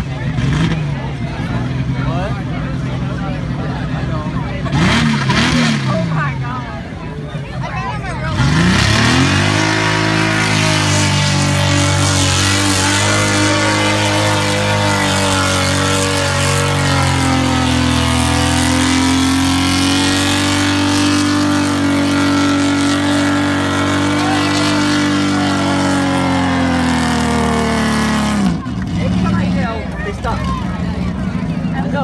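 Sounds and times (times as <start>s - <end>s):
engine at high revs: 0.0s - 32.0s.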